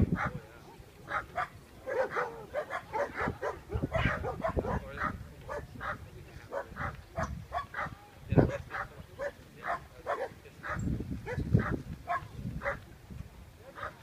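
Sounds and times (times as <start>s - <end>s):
dogs barking and yipping: 0.0s - 12.8s, 13.7s - 14.0s.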